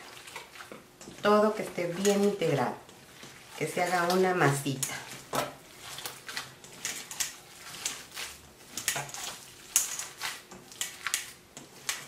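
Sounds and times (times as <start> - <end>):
hands squelching food mash: 0.0 - 12.0.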